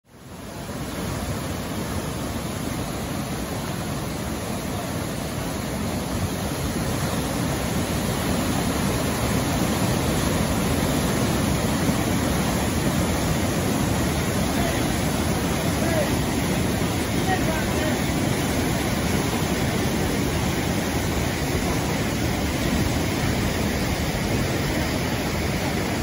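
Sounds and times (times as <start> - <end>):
water rushing over dam: 0.1 - 26.0.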